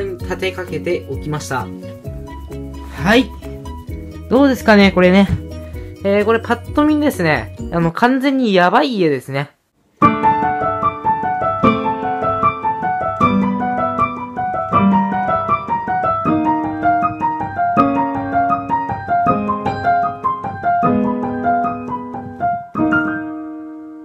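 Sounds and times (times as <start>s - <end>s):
piano music: 0.0s - 8.0s, 10.0s - 24.0s.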